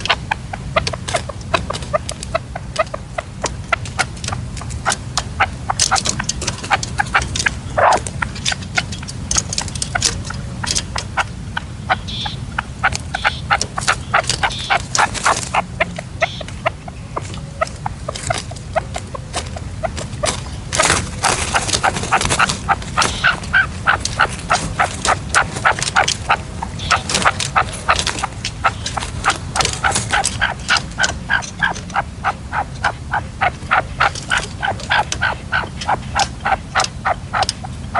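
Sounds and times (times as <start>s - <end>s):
partridges calling: 0.0s - 37.9s.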